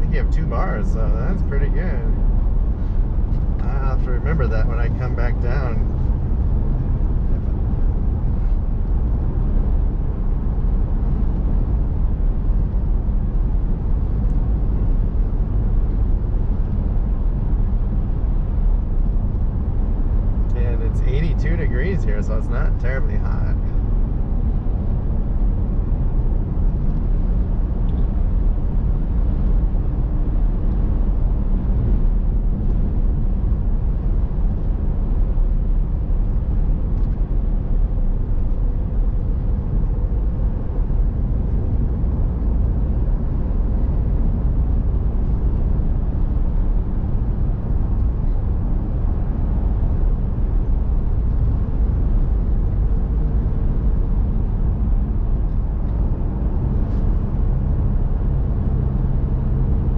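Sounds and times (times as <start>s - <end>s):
vehicle road and engine rumble: 0.0s - 59.9s.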